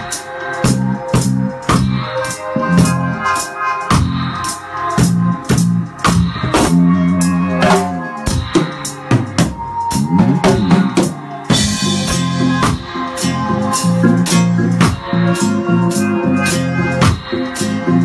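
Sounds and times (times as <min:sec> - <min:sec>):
drum kit playing reggae rhythm: 0:00.0 - 0:18.0
reggae music with bass line: 0:00.0 - 0:18.0.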